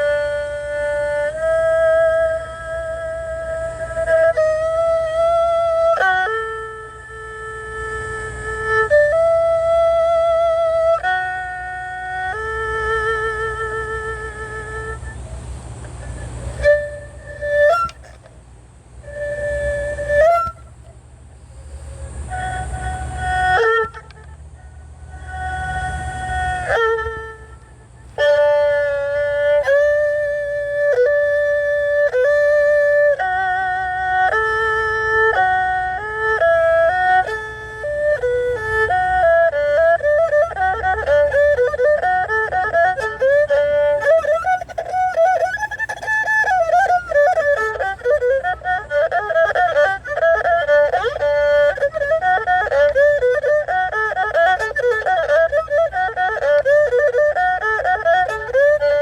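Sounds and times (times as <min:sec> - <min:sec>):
solo bowed string instrument: 0:00.0 - 0:59.0.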